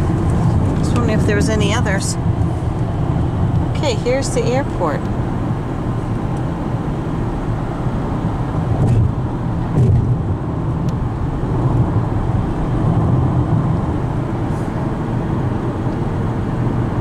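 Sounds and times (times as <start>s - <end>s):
tyre and wind road noise: 0.0s - 17.0s.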